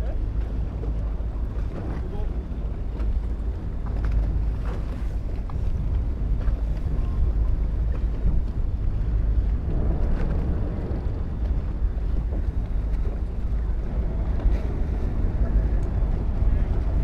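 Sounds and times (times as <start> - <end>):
boat and water noise: 0.0 - 17.0
wind buffeting microphone: 0.0 - 17.0.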